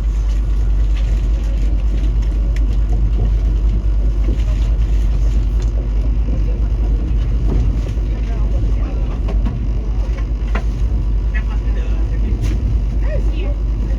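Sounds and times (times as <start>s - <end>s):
high-speed train rumbling: 0.0s - 13.9s.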